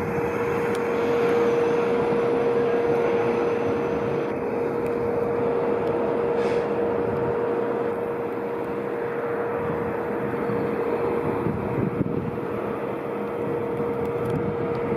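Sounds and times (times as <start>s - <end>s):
fire engine running: 0.0s - 14.9s
mid-pitched hum: 0.0s - 14.9s
street traffic rumble: 0.0s - 14.9s.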